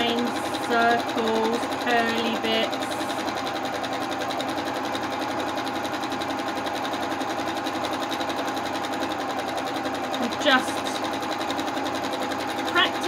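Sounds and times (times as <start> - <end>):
sewing machine stitching: 0.0 - 13.0.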